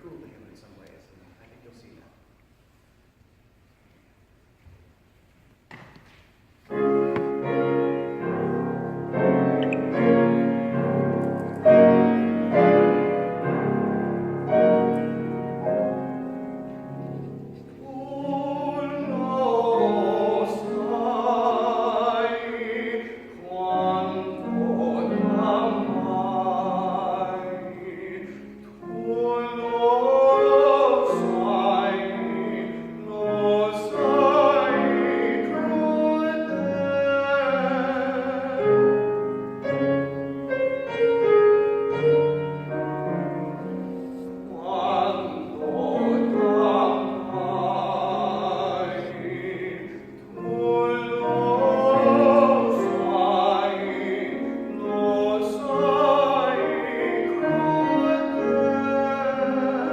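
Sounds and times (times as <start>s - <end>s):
piano accompaniment: 6.6s - 59.9s
tenor singing with vibrato: 11.6s - 59.9s.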